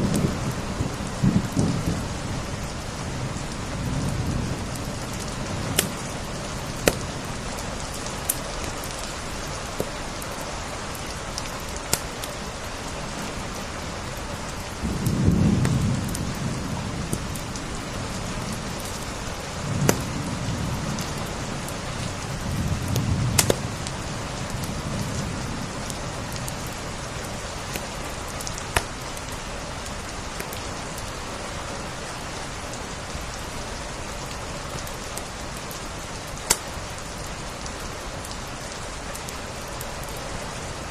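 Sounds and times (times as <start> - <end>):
steady rain: 0.0 - 40.9
wood fire crackling: 0.0 - 40.9.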